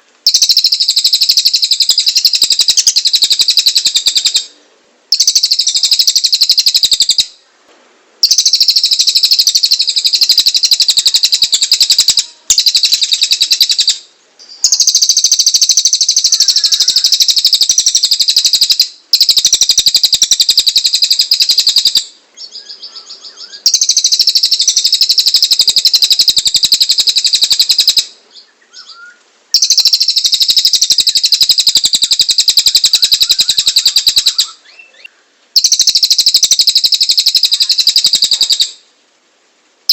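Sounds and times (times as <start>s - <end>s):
songbird harsh rapid trill: 0.3s - 4.5s, 5.1s - 7.4s, 8.2s - 22.1s, 22.7s - 28.1s, 28.8s - 38.8s.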